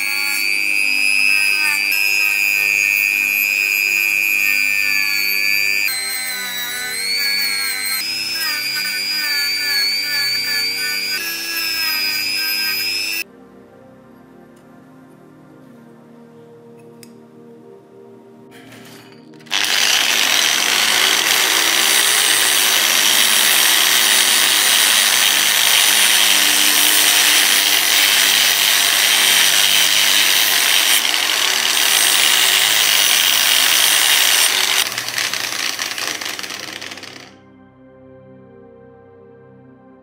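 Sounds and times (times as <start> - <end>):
angle grinder cutting metal: 0.0 - 13.2, 18.6 - 37.4.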